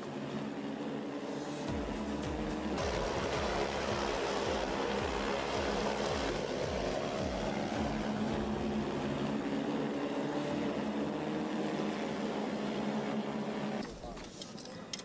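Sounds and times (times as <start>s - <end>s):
drone rotors humming: 0.0s - 14.1s.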